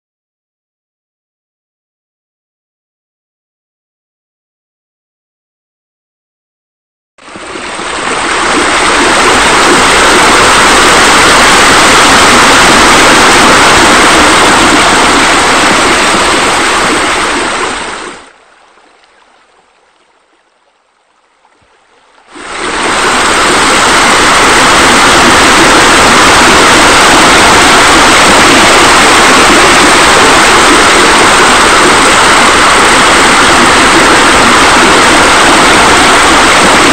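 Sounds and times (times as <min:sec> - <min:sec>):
running water rushing: 0:07.2 - 0:36.9.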